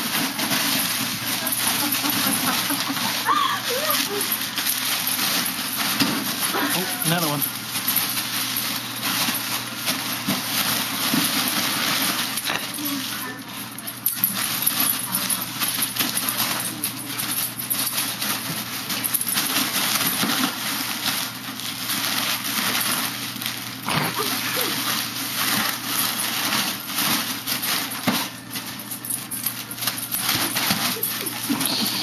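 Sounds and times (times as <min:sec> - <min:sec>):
foil balloons crinkling: 0:00.0 - 0:32.0.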